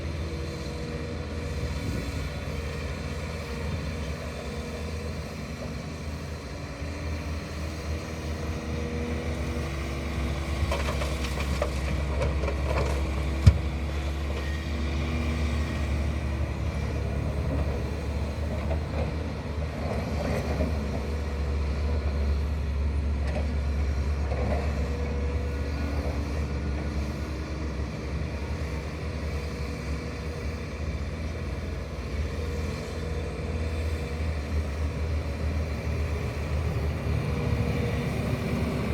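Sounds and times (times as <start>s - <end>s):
diesel excavator rumbling: 0.0s - 38.9s.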